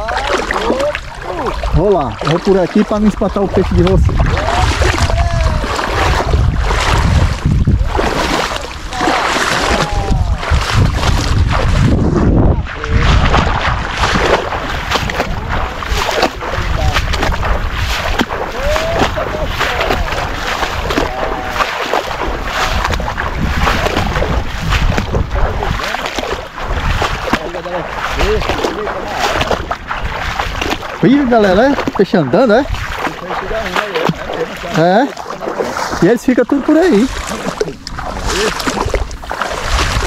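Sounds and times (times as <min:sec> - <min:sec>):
water sloshing from wading: 0:00.0 - 0:40.0
wind buffeting microphone: 0:00.0 - 0:40.0.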